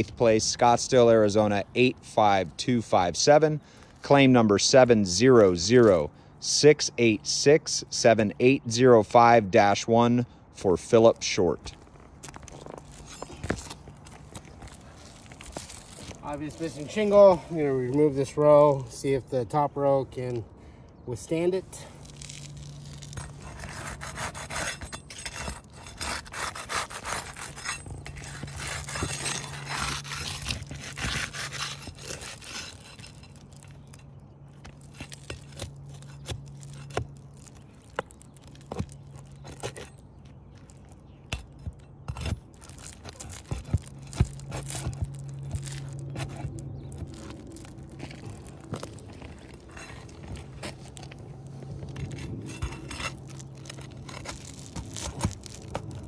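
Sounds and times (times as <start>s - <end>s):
pry bar scraping under shingles: 0.0s - 9.8s, 10.6s - 56.0s.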